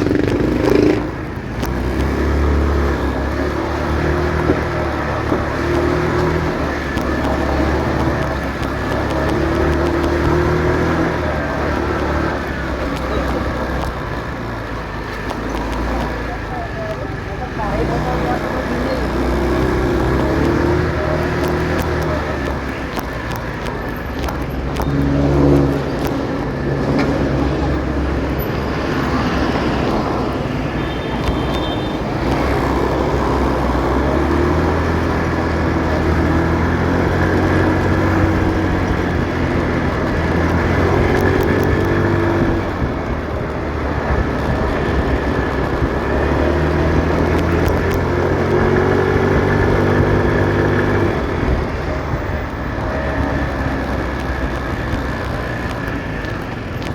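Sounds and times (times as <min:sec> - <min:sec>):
motorcycle engine running: 0:00.0 - 0:56.9
other vehicles in traffic: 0:00.0 - 0:56.9.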